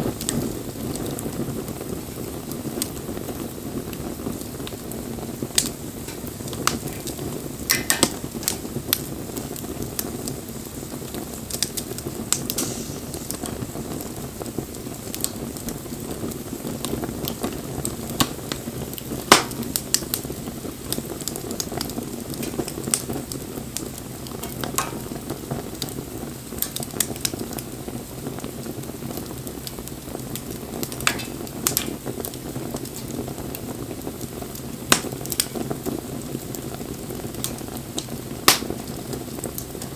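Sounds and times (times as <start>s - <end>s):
fire crackling and popping: 0.0s - 39.9s
low roar of flames: 0.0s - 39.9s.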